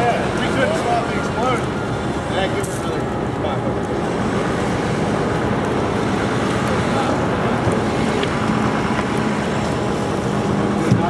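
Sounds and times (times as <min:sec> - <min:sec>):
fire hose spraying water: 0:00.0 - 0:11.0.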